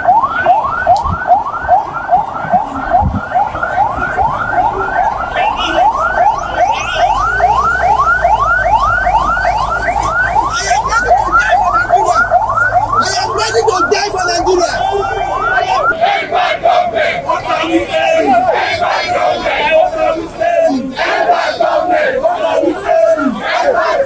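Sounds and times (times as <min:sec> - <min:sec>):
police siren yelping: 0:00.0 - 0:24.0.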